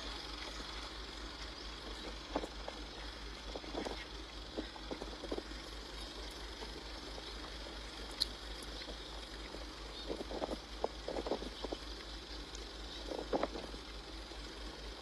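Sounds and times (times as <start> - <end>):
vehicle hum and road noise: 0.0 - 15.0.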